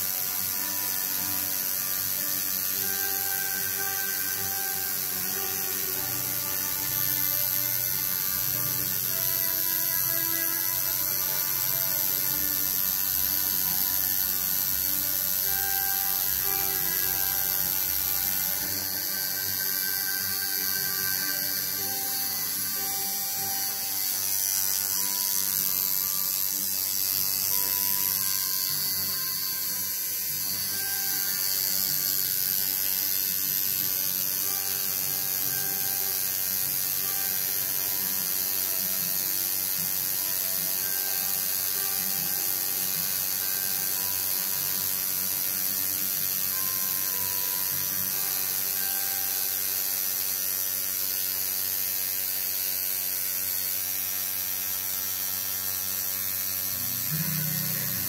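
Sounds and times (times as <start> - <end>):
tattoo machine buzzing: 0.0 - 58.0.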